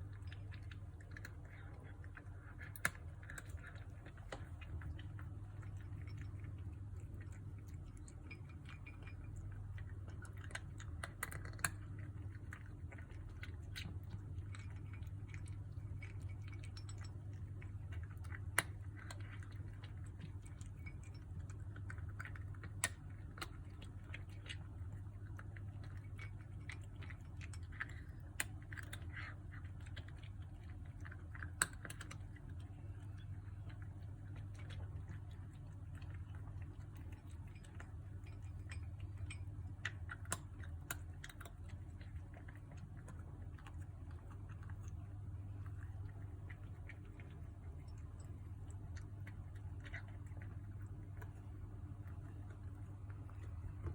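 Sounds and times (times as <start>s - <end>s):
kitten eating crunchy food: 0.0s - 53.9s.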